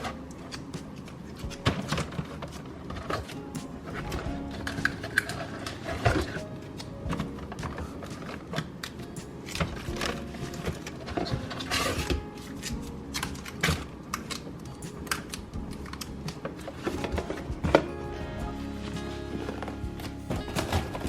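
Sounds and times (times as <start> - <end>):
groceries being handled and set down: 0.0 - 21.0.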